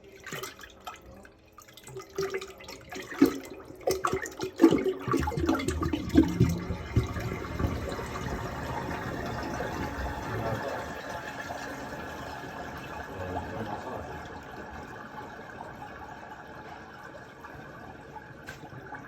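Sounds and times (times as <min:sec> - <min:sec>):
water gushing out of a pipe: 0:00.0 - 0:19.0.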